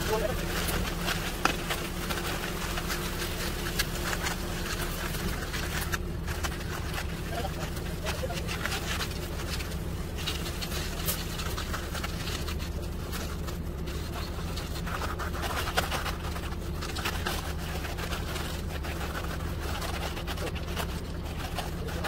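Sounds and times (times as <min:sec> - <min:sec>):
diesel engine running: 0:00.0 - 0:22.0
hand tools scraping concrete: 0:00.0 - 0:22.0.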